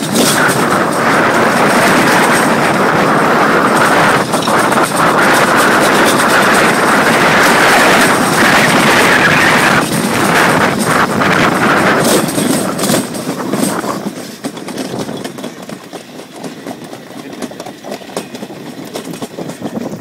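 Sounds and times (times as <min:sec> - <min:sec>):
sled rumbling on metal track: 0:00.0 - 0:20.0.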